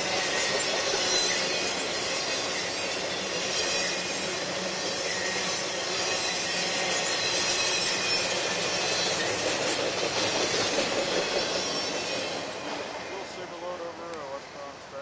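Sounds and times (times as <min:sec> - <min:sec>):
wheels squealing: 0:00.0 - 0:14.5
train wheels rumbling and clattering: 0:00.0 - 0:14.9.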